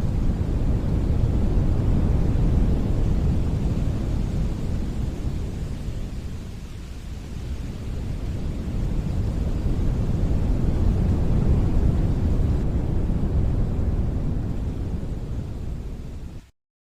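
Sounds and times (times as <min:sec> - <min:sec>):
wind blowing in gusts: 0:00.0 - 0:16.5.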